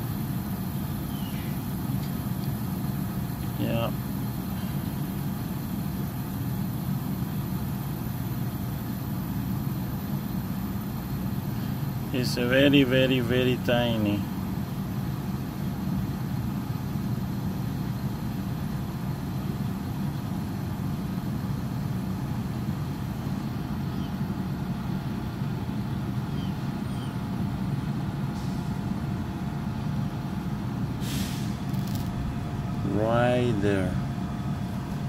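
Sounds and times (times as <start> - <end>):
machinery rumbling and humming: 0.0 - 35.0.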